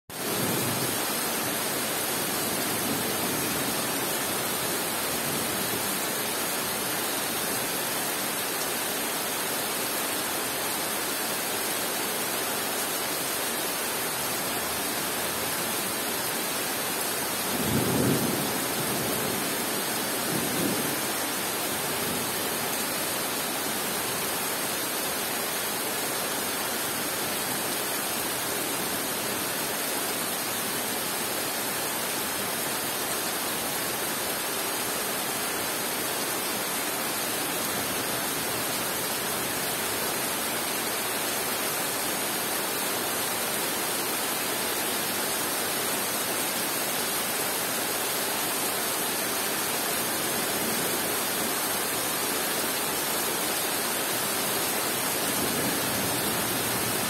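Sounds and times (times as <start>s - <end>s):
heavy rain on foliage: 0.1s - 57.0s.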